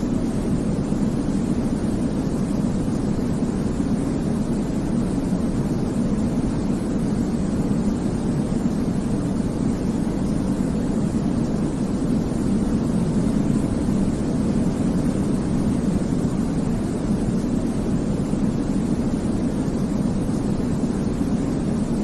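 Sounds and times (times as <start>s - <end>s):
deep white noise hiss: 0.0s - 22.0s.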